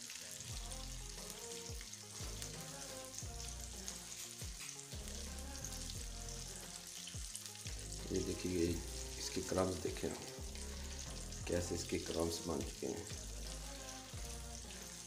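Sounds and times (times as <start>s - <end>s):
chicken wings deep-frying: 0.0s - 15.0s
background music with bass beat: 0.5s - 15.0s.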